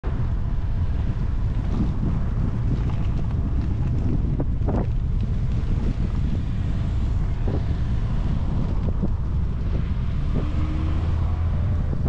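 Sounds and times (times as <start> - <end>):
wind rumbling on microphone: 0.0 - 12.0
car engine hum: 0.1 - 12.0.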